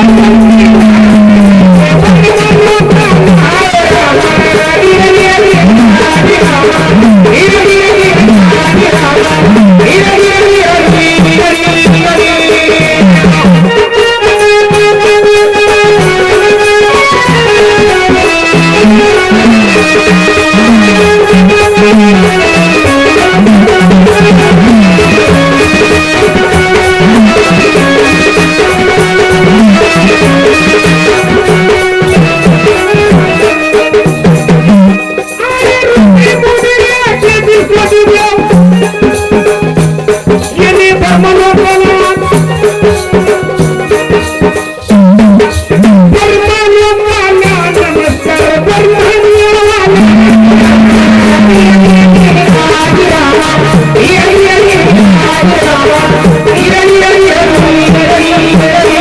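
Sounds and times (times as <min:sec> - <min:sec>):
man singing: 0:00.0 - 0:59.0
steady drum beat: 0:00.0 - 0:59.0.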